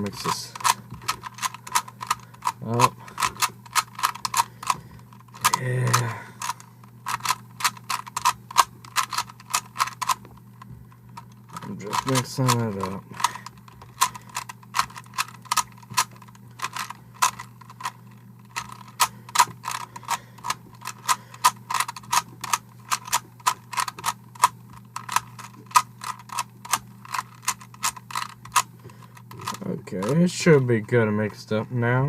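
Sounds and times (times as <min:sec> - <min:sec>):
puzzle cube plastic clicks: 0:00.0 - 0:10.2, 0:11.2 - 0:30.7.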